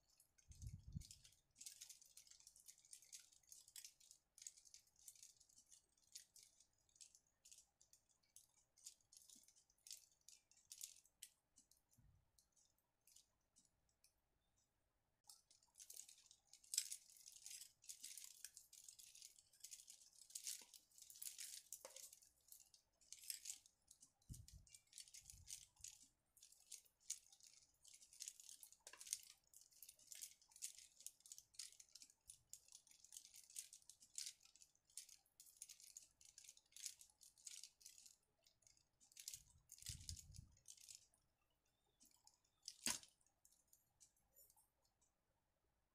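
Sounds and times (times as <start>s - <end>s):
plastic petals rattling and clicking: 0.0s - 41.2s, 41.8s - 45.1s.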